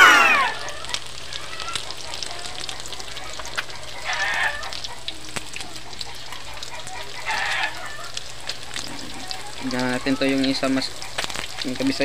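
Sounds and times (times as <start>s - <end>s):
animal calls: 0.0s - 11.9s
oil sizzling in a wok: 0.0s - 12.0s.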